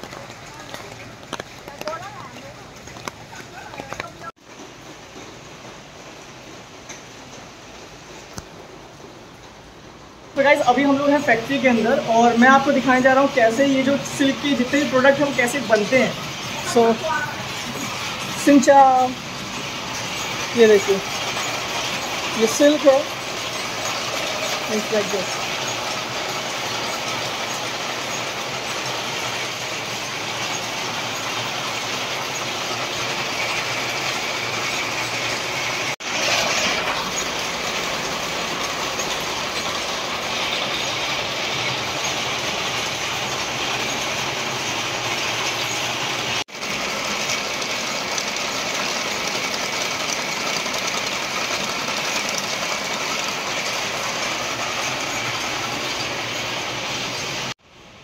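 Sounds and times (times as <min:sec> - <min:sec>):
mechanical looms clattering: 0:10.3 - 0:57.6.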